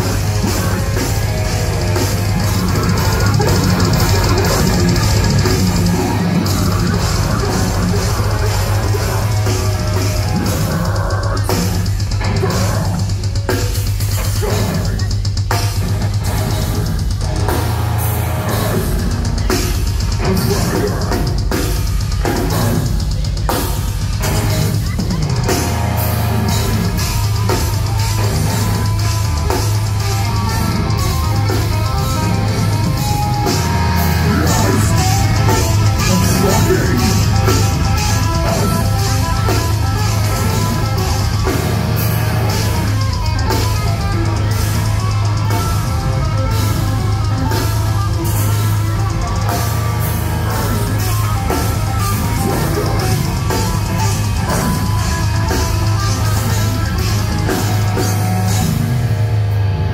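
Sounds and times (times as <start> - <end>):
distorted electric guitar: 0.0 - 59.9
drum kit pounding: 0.0 - 59.9
harsh metal vocals: 0.0 - 59.9.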